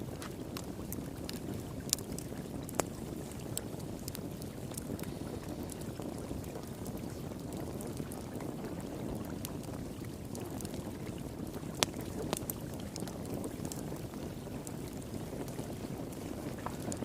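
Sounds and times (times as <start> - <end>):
fire crackling and popping: 0.0 - 17.0
flowing water: 0.0 - 17.0.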